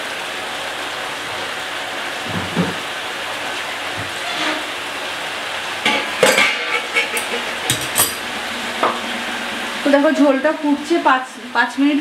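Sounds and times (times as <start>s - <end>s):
curry boiling and bubbling: 0.0s - 10.0s.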